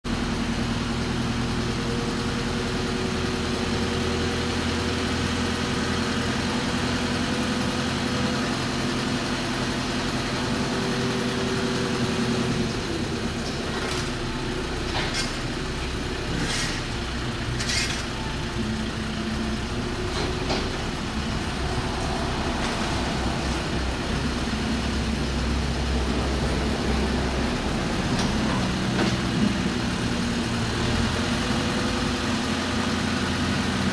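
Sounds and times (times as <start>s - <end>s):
heavy vehicle engine running: 0.1s - 33.9s.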